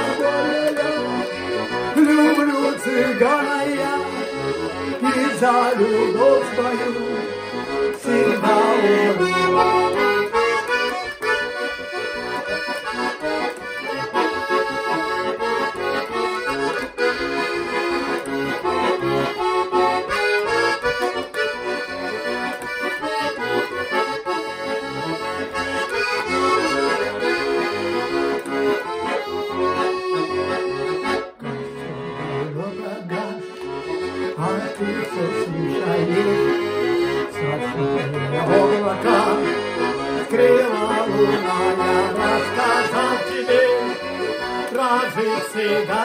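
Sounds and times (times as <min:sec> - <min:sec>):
button accordion folk music: 0:00.0 - 0:46.0.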